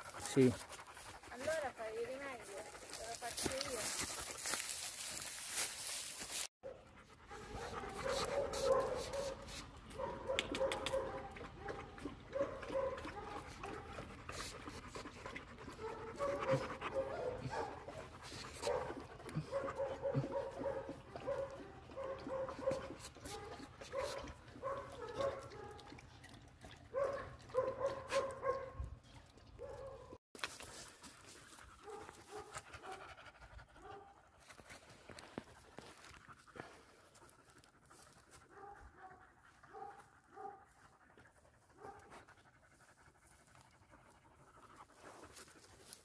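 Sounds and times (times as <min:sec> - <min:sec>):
dog panting with whine: 0:00.0 - 0:04.6, 0:06.8 - 0:11.2, 0:11.8 - 0:29.4, 0:30.6 - 0:46.0.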